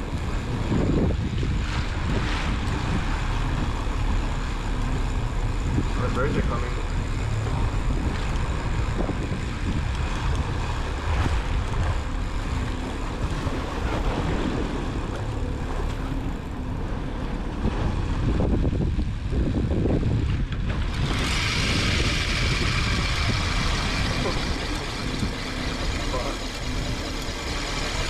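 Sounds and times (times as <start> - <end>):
boat engine rumble: 0.0 - 28.0
water noise: 0.0 - 28.0
wind: 0.0 - 28.0.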